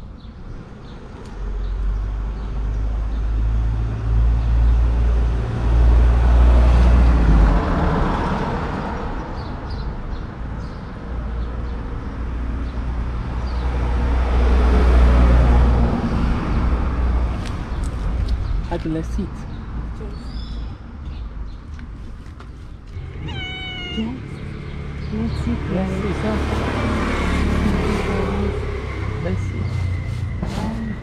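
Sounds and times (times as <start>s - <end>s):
road noise: 0.0s - 31.0s
traffic engine rumble: 0.0s - 31.0s.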